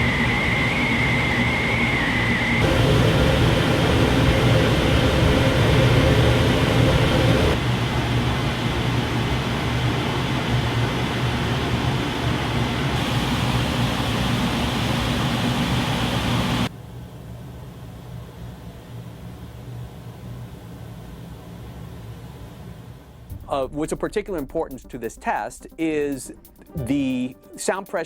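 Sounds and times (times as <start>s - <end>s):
range hood fan running: 0.0s - 24.2s.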